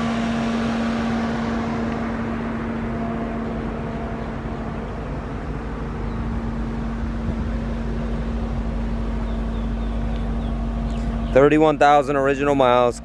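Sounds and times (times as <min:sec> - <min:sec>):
low rumble: 0:00.0 - 0:13.0
steady mechanical hum: 0:00.0 - 0:13.0.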